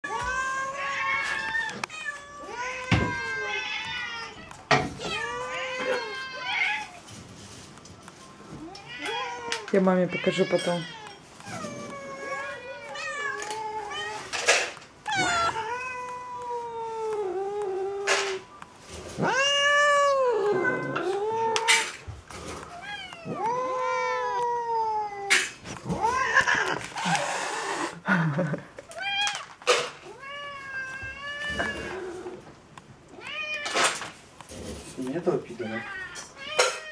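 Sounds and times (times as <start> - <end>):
cats meowing: 0.0 - 36.9.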